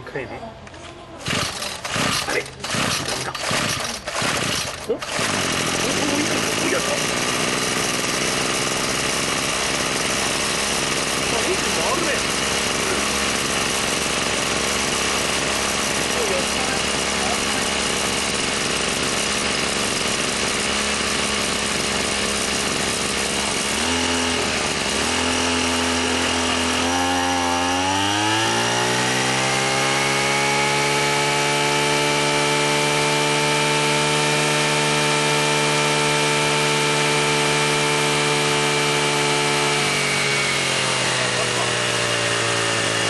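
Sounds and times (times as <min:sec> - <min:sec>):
brush cutter engine revving: 0:01.2 - 0:43.0.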